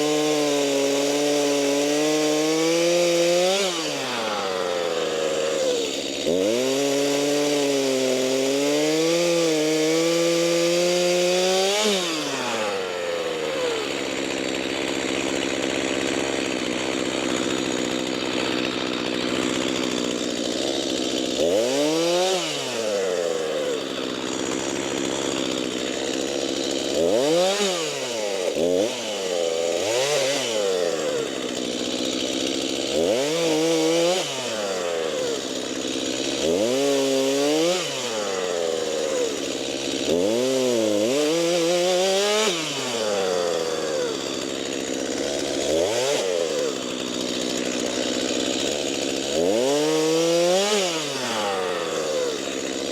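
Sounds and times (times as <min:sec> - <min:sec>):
chainsaw cutting logs: 0:00.0 - 0:52.9.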